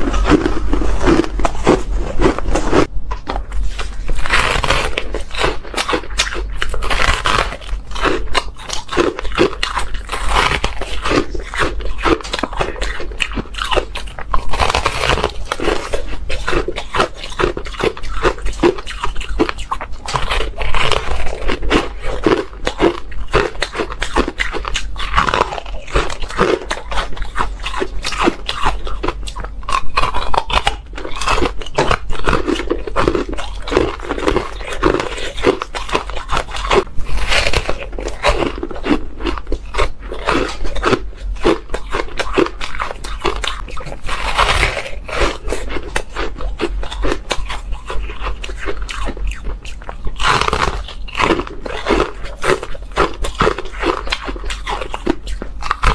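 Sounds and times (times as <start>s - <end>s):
ice crunching between teeth: 0.0s - 55.9s.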